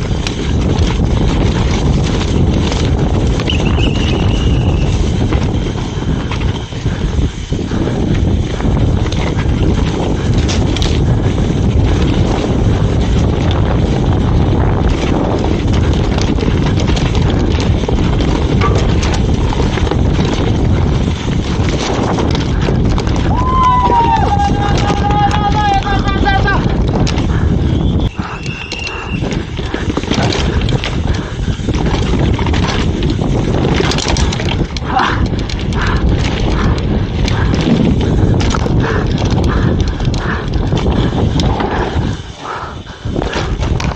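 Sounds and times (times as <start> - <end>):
bike clicks and rattles: 0.0 - 43.9
bike tyres rumbling over ground: 0.0 - 43.9
wind buffeting microphone: 0.0 - 43.9.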